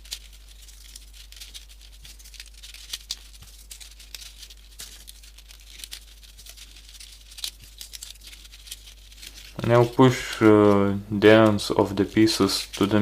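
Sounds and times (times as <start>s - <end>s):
paper rustling and clicking: 0.0s - 13.0s.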